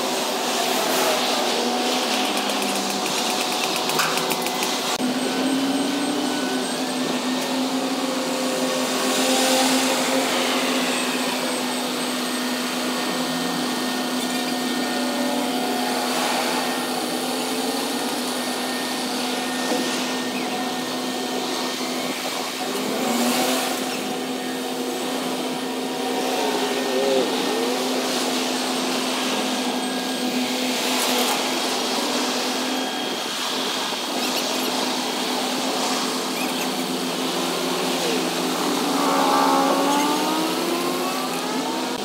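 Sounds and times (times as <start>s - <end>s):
crane engine and hydraulics drone: 0.0s - 42.0s.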